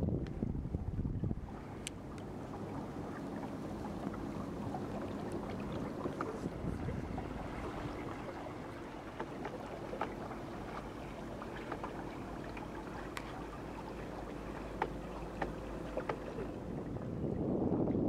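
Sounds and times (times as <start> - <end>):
water splashing against boat hull: 0.0 - 18.0
wind and water wash: 0.0 - 18.0.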